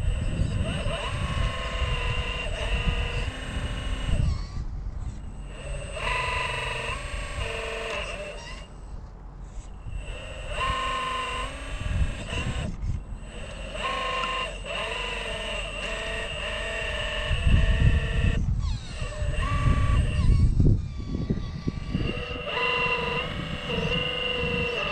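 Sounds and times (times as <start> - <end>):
wind rumble on microphone: 0.0 - 14.1, 14.8 - 24.9
toy truck motor whine: 0.0 - 24.9.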